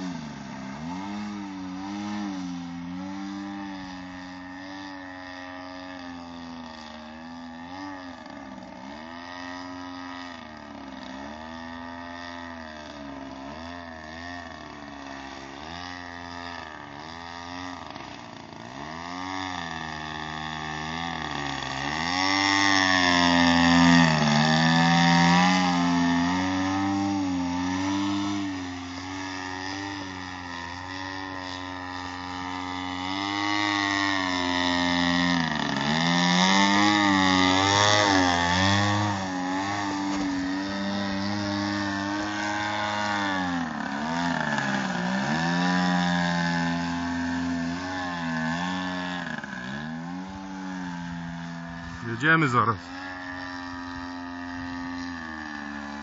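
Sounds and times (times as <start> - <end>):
model plane engine in flight: 0.0 - 56.0.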